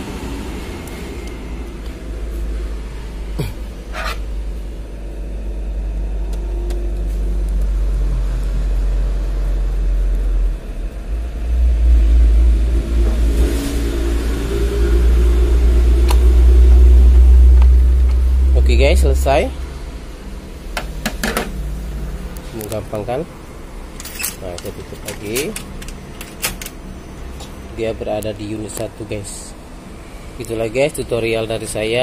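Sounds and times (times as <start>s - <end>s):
low steady rumble: 0.0s - 32.0s.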